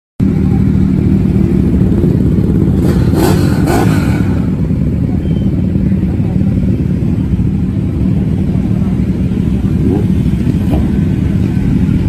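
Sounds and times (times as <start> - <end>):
motorcycle engines revving: 0.2 - 12.0.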